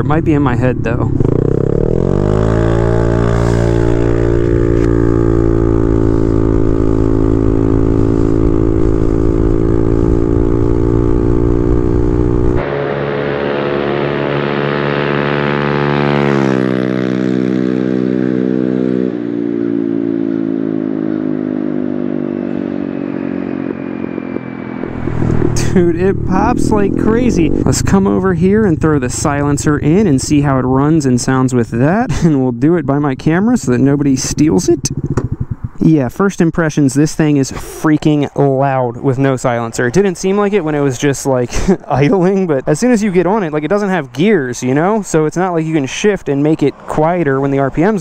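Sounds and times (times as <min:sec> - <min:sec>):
motorcycle engine revving and passing: 0:00.0 - 0:36.3, 0:37.0 - 0:48.0.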